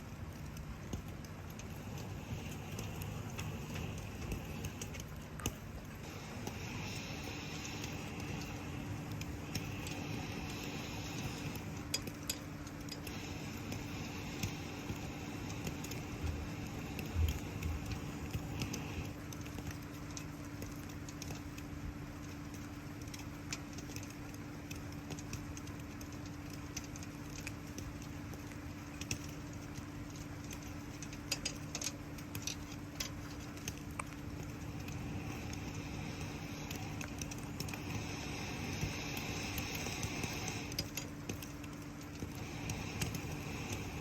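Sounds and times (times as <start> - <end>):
low hum: 0.0 - 44.0
rain hissing: 0.0 - 44.0
wood fire crackling: 0.0 - 44.0.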